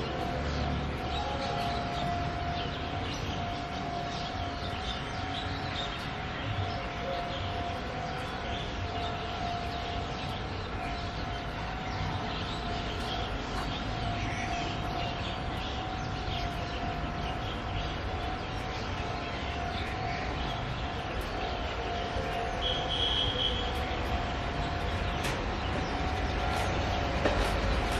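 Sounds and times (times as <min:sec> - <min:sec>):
siren-like tone: 0:00.0 - 0:27.9
train rumble: 0:00.0 - 0:27.9.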